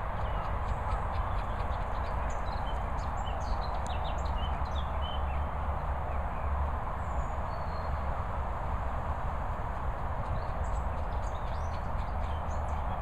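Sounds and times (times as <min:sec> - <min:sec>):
birds chirping: 0:00.0 - 0:08.1, 0:10.2 - 0:13.0.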